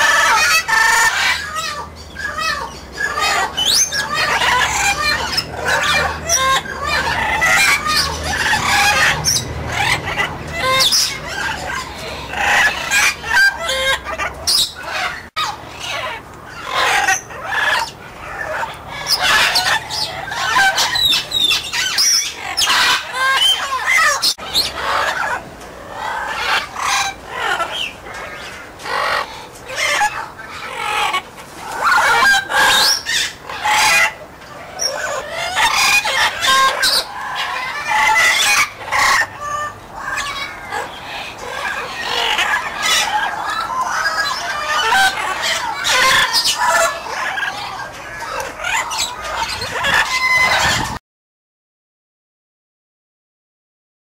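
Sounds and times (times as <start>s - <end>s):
parrots calling loudly: 0.0s - 51.0s.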